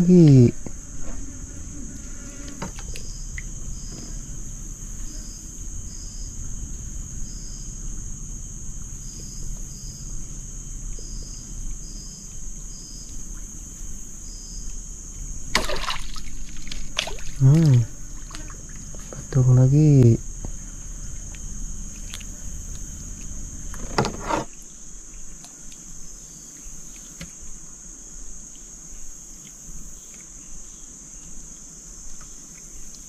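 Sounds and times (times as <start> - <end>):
insects droning: 0.0 - 33.0
low background hiss: 0.0 - 33.0.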